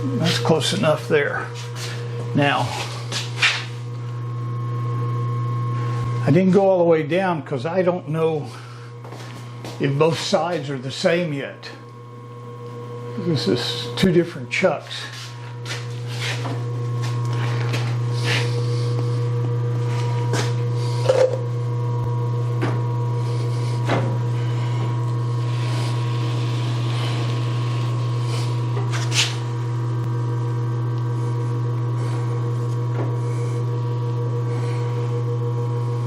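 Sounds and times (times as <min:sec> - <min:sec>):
surface grinder humming: 0:00.0 - 0:06.4, 0:08.2 - 0:36.0.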